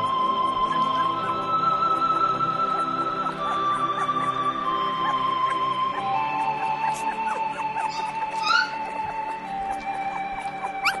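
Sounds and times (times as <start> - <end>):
slow music of long held notes: 0.0 - 11.0.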